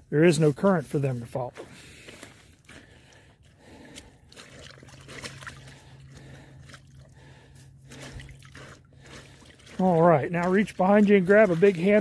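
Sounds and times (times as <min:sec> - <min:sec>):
hands squelching wet mud: 0:00.4 - 0:12.0
water splashing and dribbling: 0:01.7 - 0:12.0.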